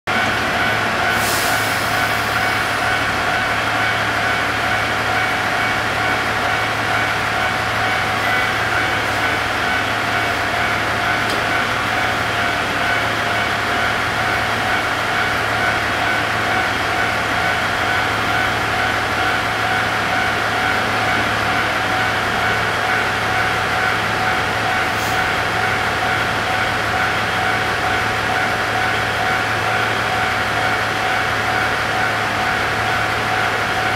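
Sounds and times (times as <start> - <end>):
diesel railcar engine idling: 0.1 - 33.9.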